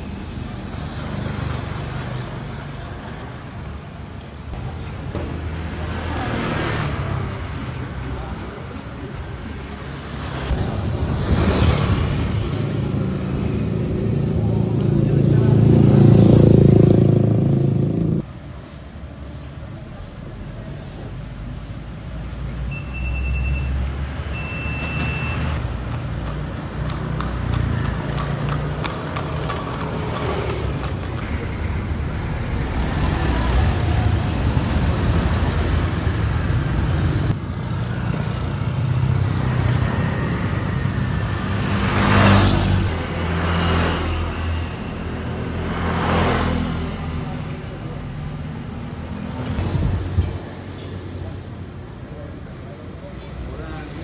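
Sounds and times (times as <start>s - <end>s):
traffic rumble: 0.0s - 54.0s
vehicles passing: 0.0s - 54.0s.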